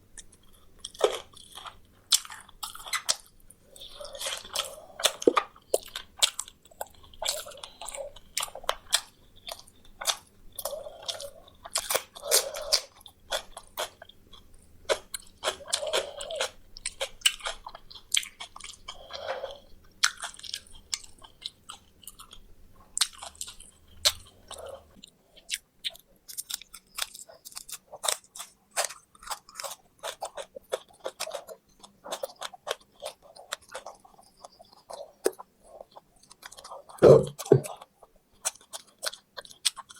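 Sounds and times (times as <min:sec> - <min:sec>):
crunching fried chicken: 0:00.2 - 0:39.9
wet chewing: 0:00.2 - 0:39.9.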